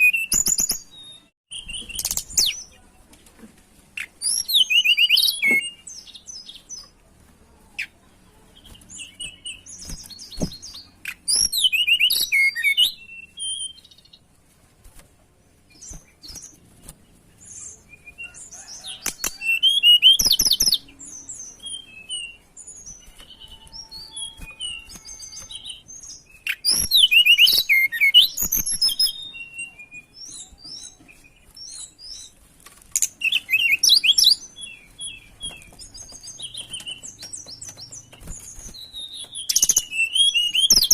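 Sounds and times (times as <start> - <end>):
bird chirps: 0.0 - 3.0, 4.0 - 7.0, 7.6 - 14.3, 15.6 - 40.9.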